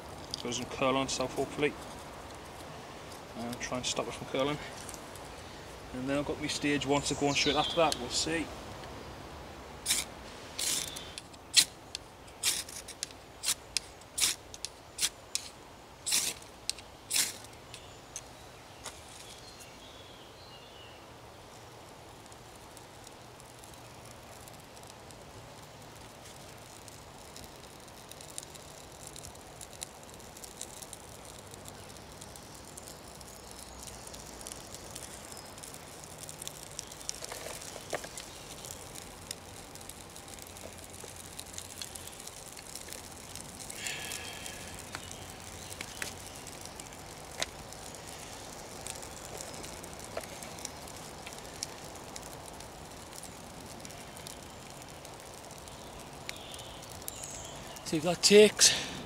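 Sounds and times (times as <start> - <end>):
faint hiss: 0.0 - 59.0
fire crackling and popping: 0.0 - 59.0.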